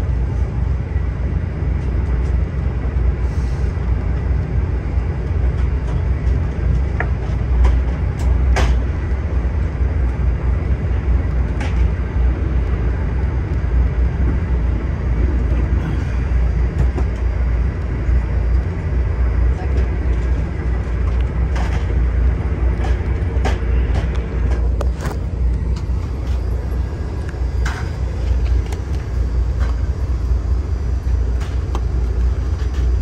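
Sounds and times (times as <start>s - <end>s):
train interior running noise: 0.0s - 33.0s.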